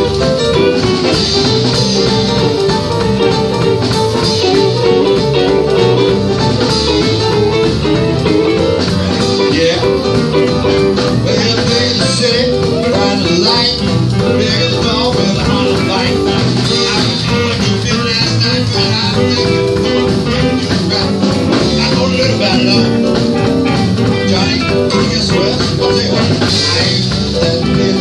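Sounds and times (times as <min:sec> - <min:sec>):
electric guitar leading: 0:00.0 - 0:28.0
live blues band playing: 0:00.0 - 0:28.0.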